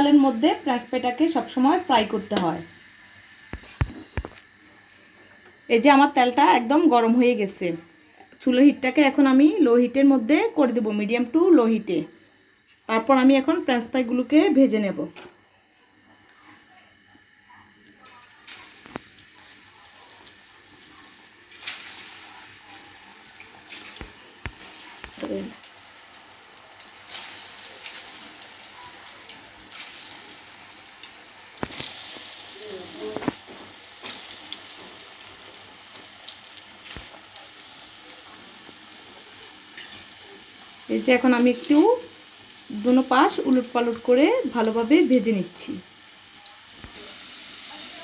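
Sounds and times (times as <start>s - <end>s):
fries sizzling in hot oil: 0.0s - 12.6s, 18.0s - 48.0s.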